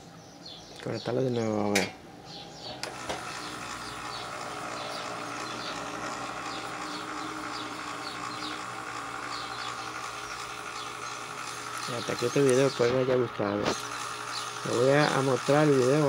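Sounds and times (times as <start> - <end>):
electric fan motor humming: 0.0 - 16.0.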